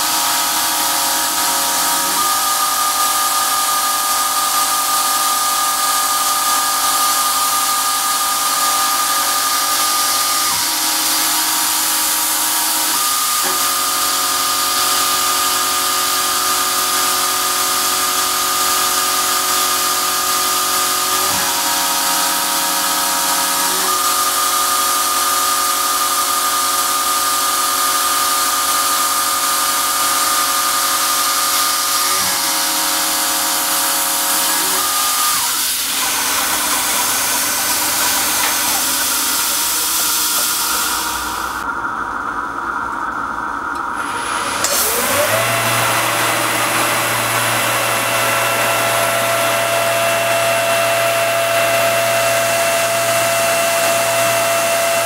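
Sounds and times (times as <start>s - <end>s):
milling machine running: 0.0s - 55.0s.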